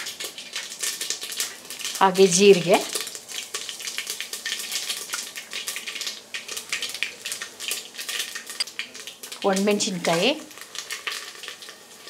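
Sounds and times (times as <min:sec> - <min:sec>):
seeds sizzling and popping in oil: 0:00.0 - 0:12.0.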